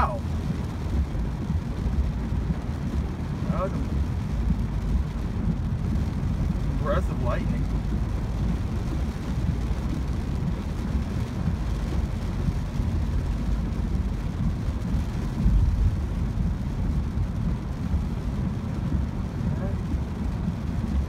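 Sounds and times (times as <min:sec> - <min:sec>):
rain on car: 0:00.0 - 0:21.0
tyres rumbling on wet road: 0:00.0 - 0:21.0.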